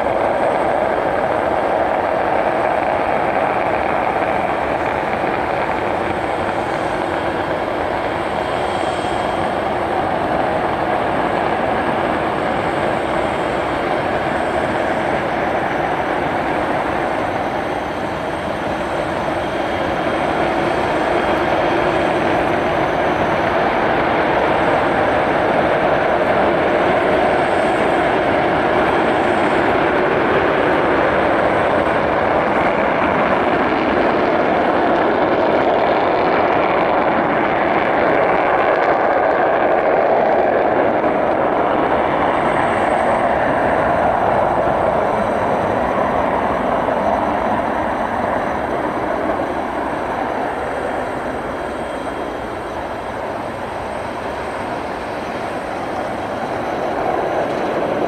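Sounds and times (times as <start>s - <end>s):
jet bomber taking off: 0.0s - 58.0s.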